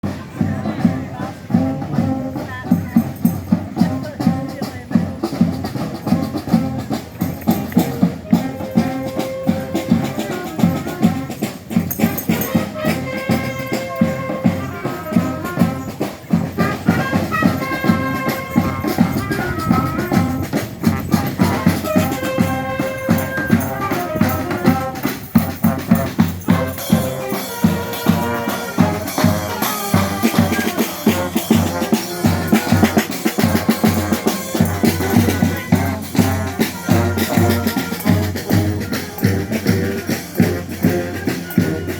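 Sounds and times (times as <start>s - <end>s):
brass and wind melody: 0.0s - 41.9s
drums and percussion beat: 0.0s - 41.9s.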